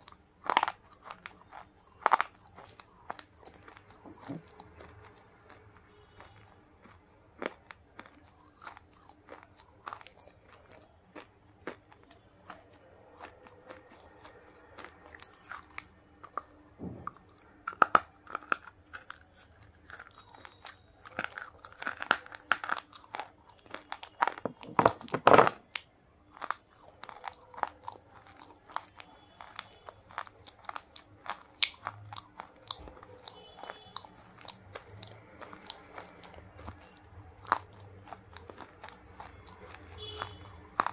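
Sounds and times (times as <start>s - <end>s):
crunchy biting and chewing: 0.0s - 40.9s.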